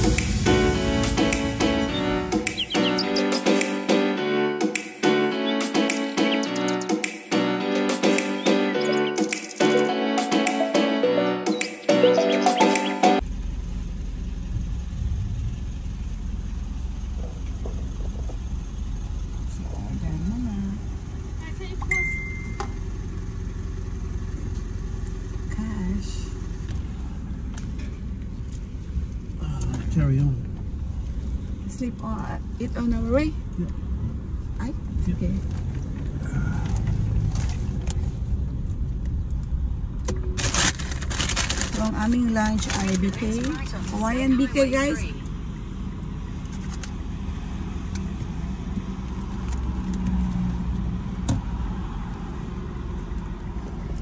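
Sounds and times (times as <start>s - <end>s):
car engine idling: 0.0s - 5.7s, 13.2s - 54.0s.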